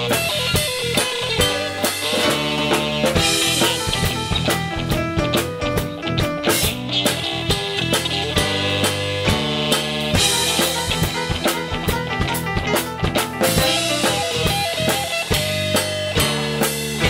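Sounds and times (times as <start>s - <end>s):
bass guitar: 0.0s - 17.0s
drum kit: 0.0s - 17.0s
electric guitars: 0.0s - 17.0s
keyboard melody run: 0.0s - 17.0s.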